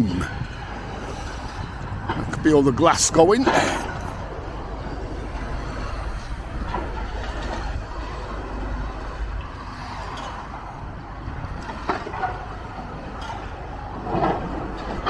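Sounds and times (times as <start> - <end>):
machinery rumble: 0.0 - 15.0
wind buffeting microphone: 0.0 - 15.0.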